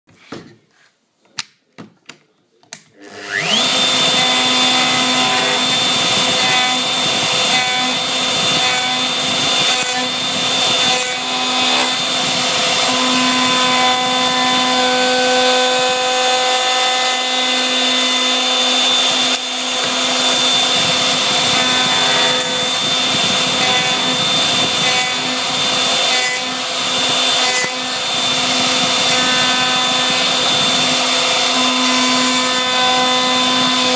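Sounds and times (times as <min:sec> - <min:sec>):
router whining: 0:03.0 - 0:33.9.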